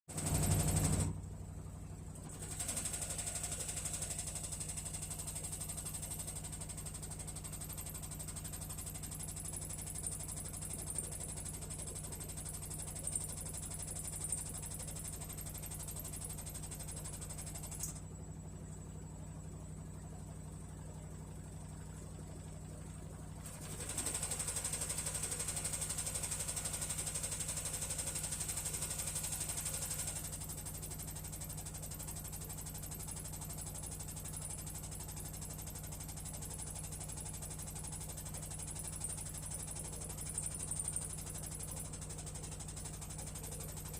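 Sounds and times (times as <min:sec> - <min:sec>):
motor hum: 0:00.1 - 0:43.9.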